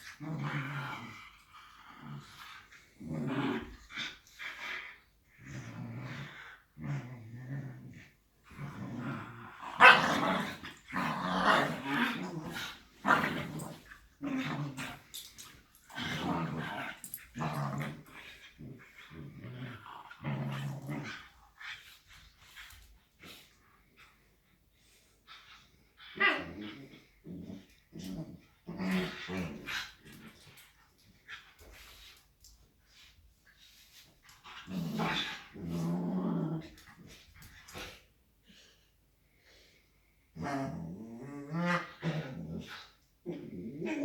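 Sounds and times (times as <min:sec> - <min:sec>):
dogs growling and barking: 0:00.0 - 0:21.8, 0:25.7 - 0:32.0, 0:34.3 - 0:38.0, 0:40.4 - 0:44.0.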